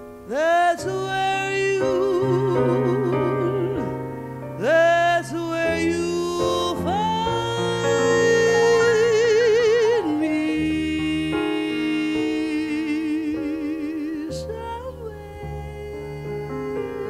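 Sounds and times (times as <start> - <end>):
instrumental accompaniment: 0.0 - 17.0
person singing with vibrato: 0.1 - 17.0.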